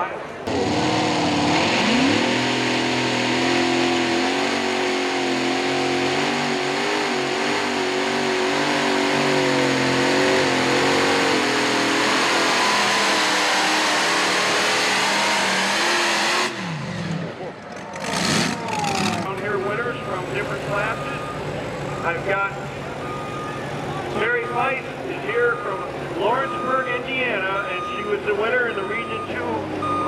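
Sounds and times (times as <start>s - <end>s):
tractor engines at full throttle: 0.0s - 30.0s.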